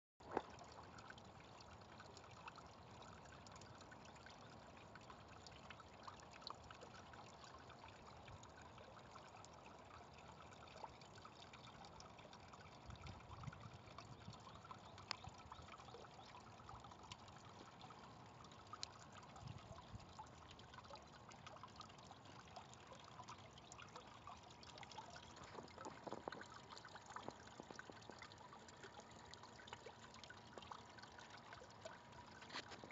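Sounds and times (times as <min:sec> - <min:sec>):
water drips and splashes: 0:00.2 - 0:32.9
water trickling down steel column: 0:00.2 - 0:32.9.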